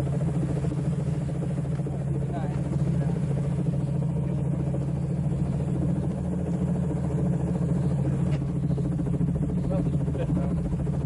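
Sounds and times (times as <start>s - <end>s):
helicopter engine droning: 0.0s - 11.0s.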